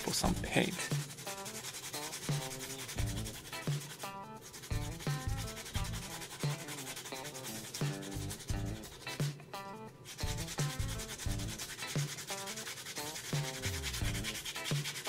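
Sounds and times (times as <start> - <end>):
sandpaper rubbing: 0.0 - 9.4, 10.0 - 15.0
background music: 0.0 - 15.0.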